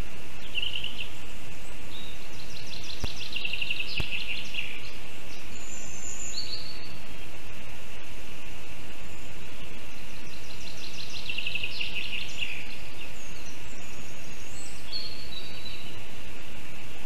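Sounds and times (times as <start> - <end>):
small bird singing: 0.0 - 7.6, 8.6 - 17.0
outdoor background hiss: 0.0 - 17.0.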